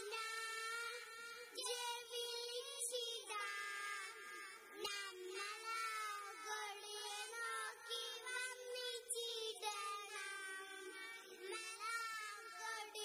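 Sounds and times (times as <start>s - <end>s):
girls singing into microphones: 0.0s - 13.0s.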